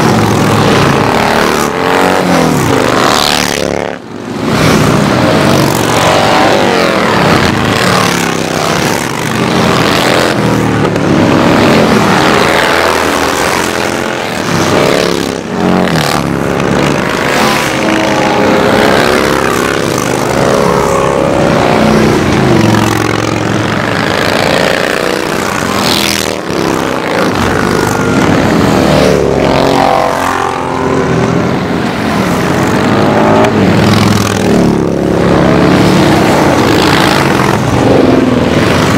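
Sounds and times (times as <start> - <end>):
motorcycles riding past: 0.0 - 38.9.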